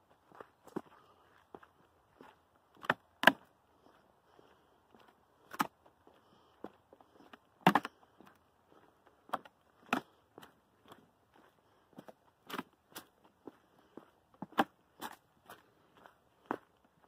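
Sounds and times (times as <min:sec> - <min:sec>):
footsteps on wooden boardwalk: 0:00.0 - 0:17.0.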